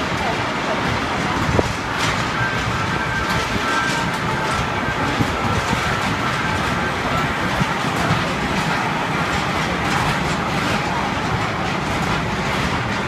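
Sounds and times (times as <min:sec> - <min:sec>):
ride train wheels rolling: 0:00.0 - 0:13.0.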